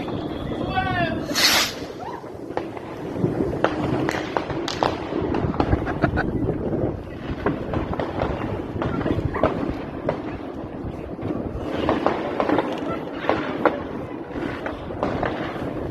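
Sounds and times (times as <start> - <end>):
firework cracks and bangs: 0.0 - 15.9
firework rumble: 0.0 - 15.9.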